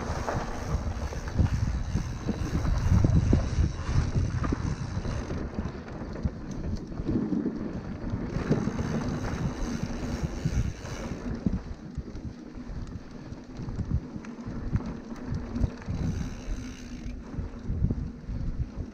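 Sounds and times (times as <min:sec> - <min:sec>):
mountain bike rumbling and rattling: 0:00.0 - 0:18.9
wind buffeting microphone: 0:00.0 - 0:18.9.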